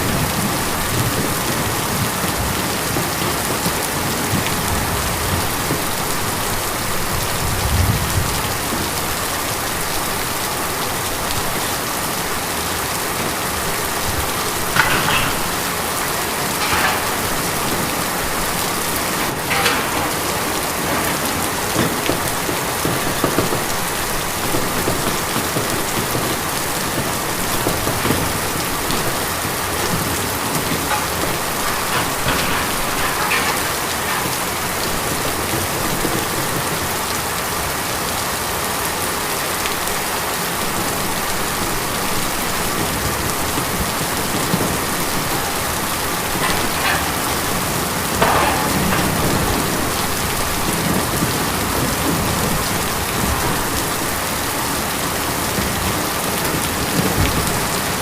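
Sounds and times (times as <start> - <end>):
loud individual raindrops: 0.0 - 58.0
rain on a tin roof: 0.0 - 58.0.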